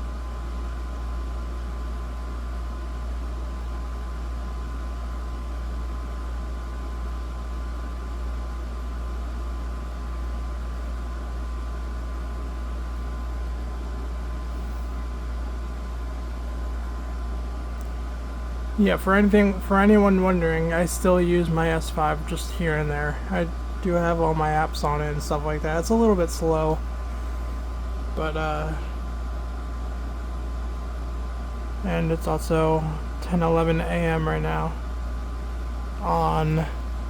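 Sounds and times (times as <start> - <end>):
desk fan running: 0.0 - 37.0
faint steady whine: 0.0 - 37.0.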